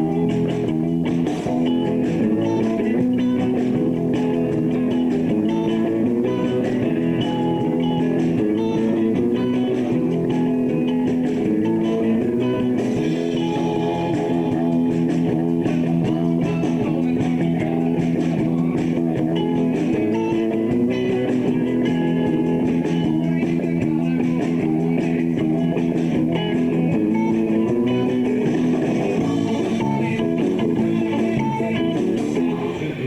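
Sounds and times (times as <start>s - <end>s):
bass guitar: 0.0s - 33.0s
drums: 0.0s - 33.0s
guitars: 0.0s - 33.0s.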